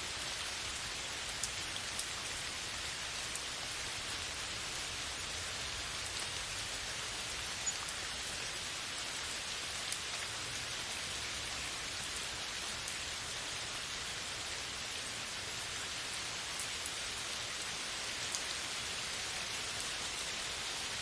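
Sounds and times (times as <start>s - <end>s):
rain on foliage: 0.0s - 21.0s.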